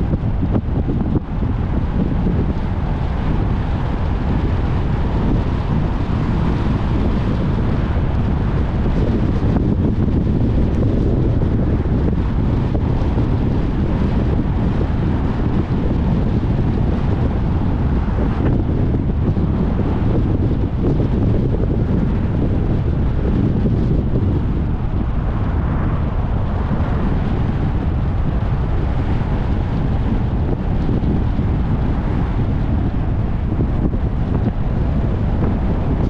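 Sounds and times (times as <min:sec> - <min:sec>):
car driving on road rumble: 0:00.0 - 0:36.0
wind buffeting microphone: 0:00.0 - 0:36.0.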